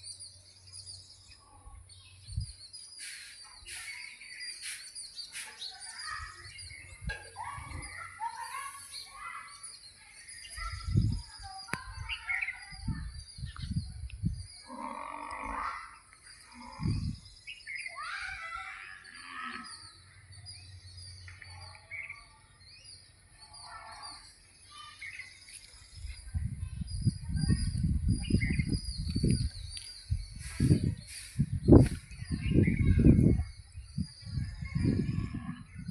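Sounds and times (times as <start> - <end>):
birds chirping and calling: 0.0 - 35.9.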